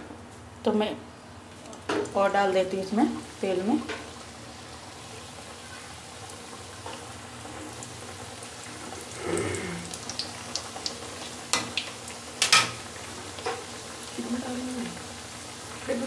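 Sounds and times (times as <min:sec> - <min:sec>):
food deep-frying in oil: 0:00.6 - 0:16.0.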